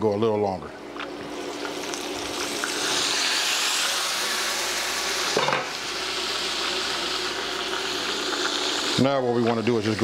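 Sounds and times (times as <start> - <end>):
chicken frying in oil: 1.6 - 10.0.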